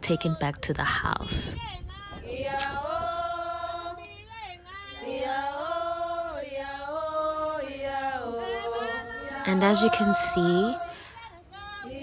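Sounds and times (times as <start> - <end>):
group singing in harmony: 2.0 - 12.0.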